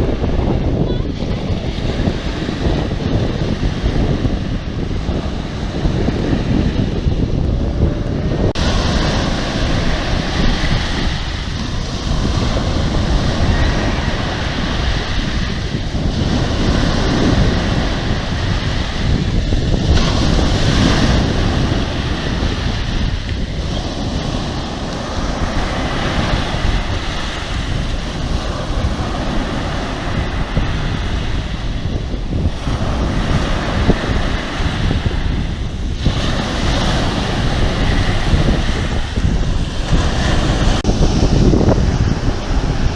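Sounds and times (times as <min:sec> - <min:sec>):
sea waves breaking: 0:00.0 - 0:42.9
wind buffeting microphone: 0:00.0 - 0:42.9.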